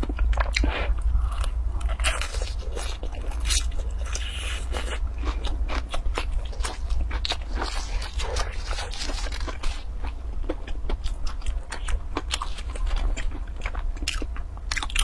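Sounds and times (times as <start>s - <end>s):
crunchy food chewing: 0.0s - 15.0s
steady low hum: 0.0s - 15.0s.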